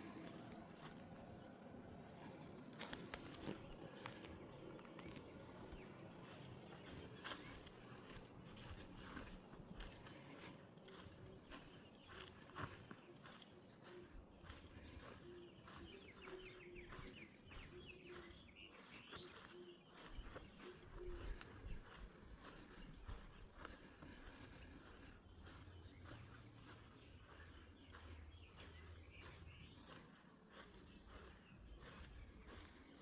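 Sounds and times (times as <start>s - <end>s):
birds calling: 2.8s - 33.0s.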